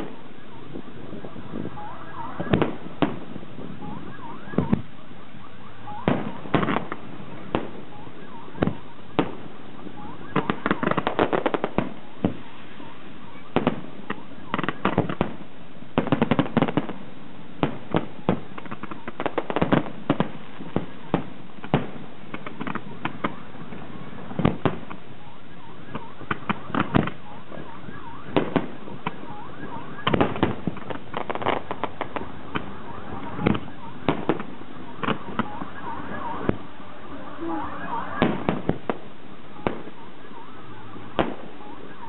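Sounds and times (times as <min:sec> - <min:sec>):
fireworks bangs and pops: 0:00.0 - 0:04.9, 0:05.8 - 0:36.7, 0:38.1 - 0:40.1, 0:40.9 - 0:42.0.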